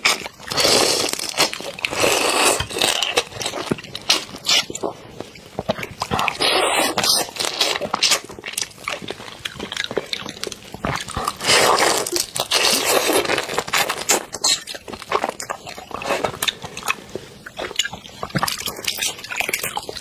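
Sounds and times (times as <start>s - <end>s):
sucking and chewing: 0.0s - 20.0s.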